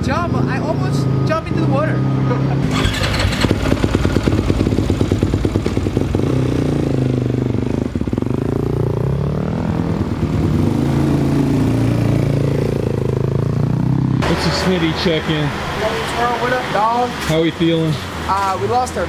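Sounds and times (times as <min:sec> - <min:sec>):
dirt bike engine revving: 0:00.4 - 0:19.0.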